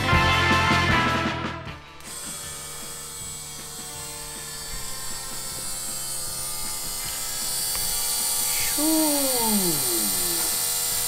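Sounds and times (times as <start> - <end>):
electric fuel pump humming: 2.0 - 11.0.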